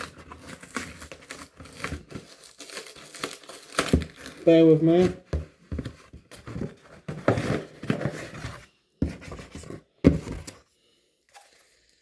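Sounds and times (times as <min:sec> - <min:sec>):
packaging rustling and scraping: 0:00.0 - 0:10.7.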